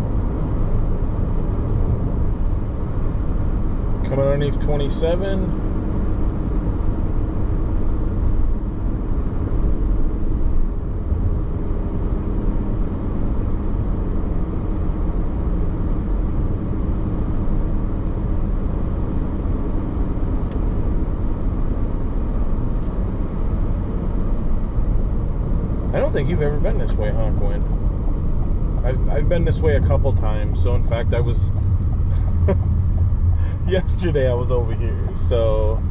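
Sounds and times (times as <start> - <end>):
car tyres and engine rumble: 0.0 - 35.9.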